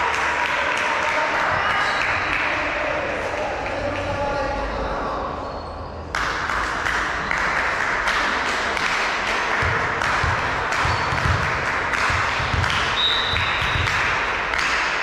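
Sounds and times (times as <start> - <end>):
spectators clapping: 0.0 - 4.2, 6.1 - 15.0.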